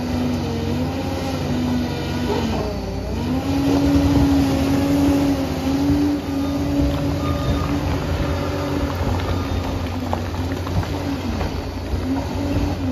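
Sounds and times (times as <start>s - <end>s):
bulldozer diesel engine under load: 0.0s - 12.9s.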